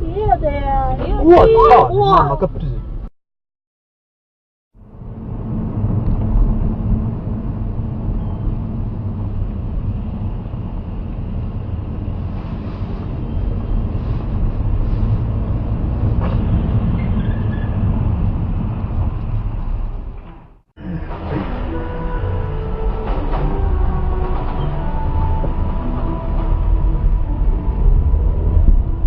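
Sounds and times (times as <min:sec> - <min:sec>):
car engine and road noise: 0:00.0 - 0:03.1, 0:04.8 - 0:29.0.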